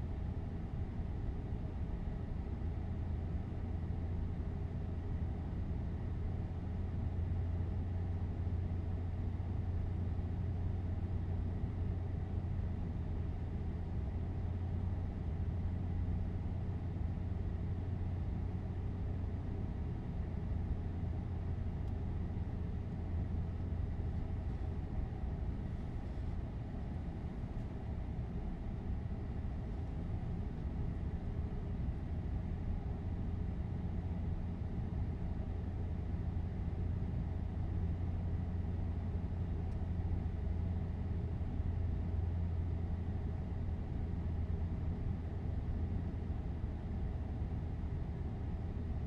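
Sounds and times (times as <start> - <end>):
aircraft cockpit hum and rumble: 0.0 - 49.0.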